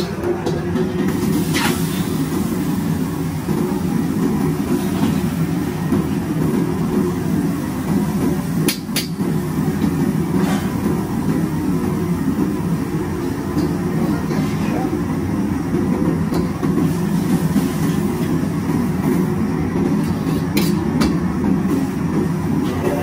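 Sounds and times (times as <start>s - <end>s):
gas burner roaring: 0.0s - 23.0s.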